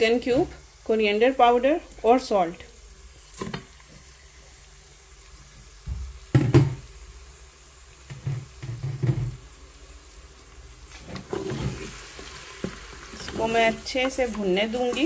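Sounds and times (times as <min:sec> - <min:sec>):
onions frying faint sizzle: 0:00.0 - 0:15.0.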